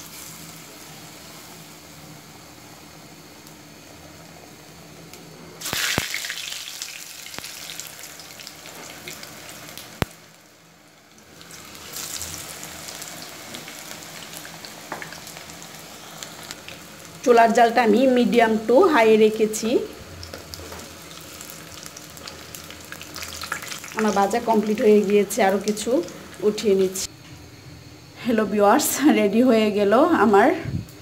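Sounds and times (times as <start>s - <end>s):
slices deep-frying in hot oil: 0.0s - 27.1s.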